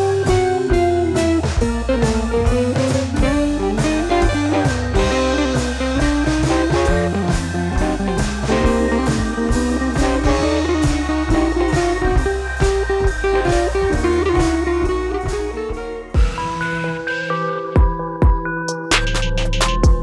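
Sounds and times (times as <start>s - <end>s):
blues-rock music: 0.0s - 20.0s.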